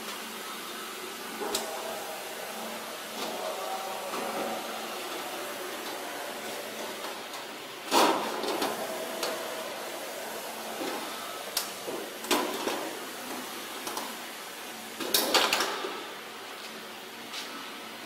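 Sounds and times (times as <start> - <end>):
workshop background noise: 0.0 - 18.0.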